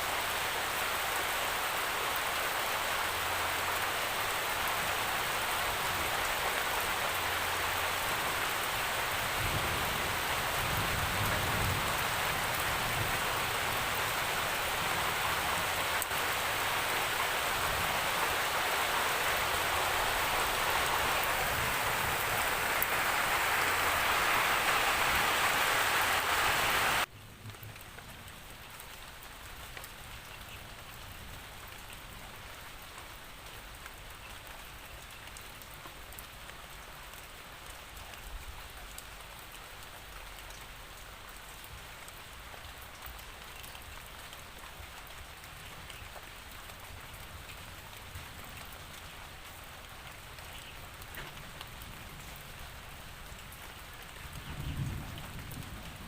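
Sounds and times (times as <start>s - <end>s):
heavy rainfall: 0.0s - 56.0s
light rain: 0.0s - 56.0s.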